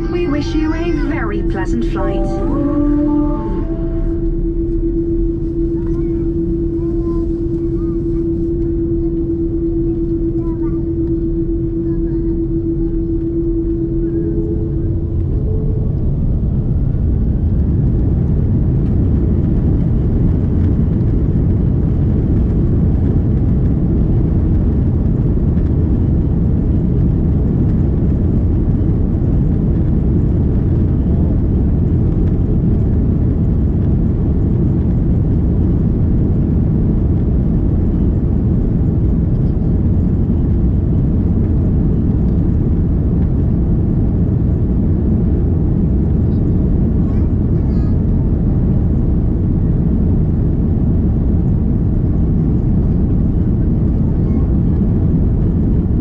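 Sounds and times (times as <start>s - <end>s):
jet engines at low thrust: 0.0s - 56.0s.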